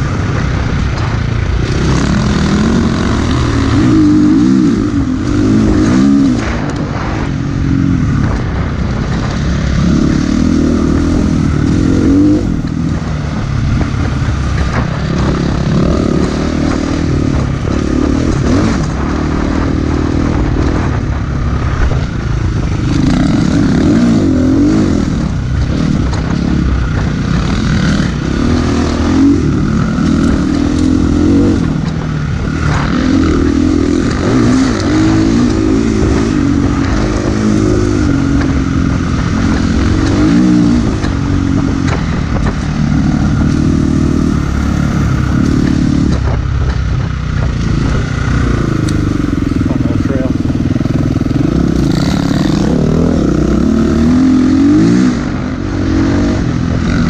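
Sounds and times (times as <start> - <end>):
dirt bike engine revving: 0.0 - 57.0
wind noise on microphone: 0.0 - 57.0.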